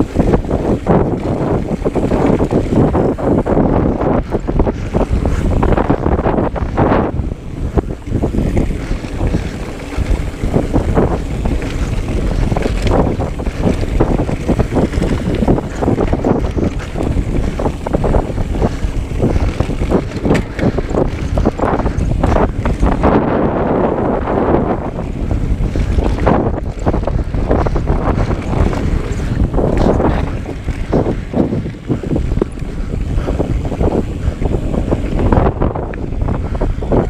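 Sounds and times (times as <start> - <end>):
bike knocks and rattles: 0.0 - 37.0
wind buffeting microphone: 0.0 - 37.0.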